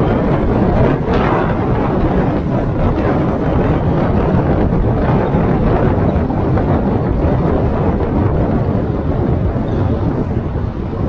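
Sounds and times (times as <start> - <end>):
car tyre and wind noise: 0.0 - 11.0.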